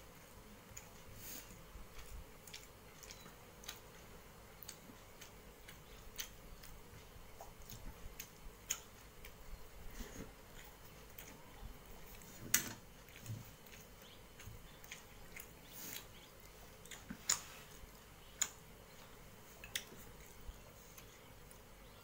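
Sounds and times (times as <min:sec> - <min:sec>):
food mixing and chewing: 0:00.0 - 0:22.0.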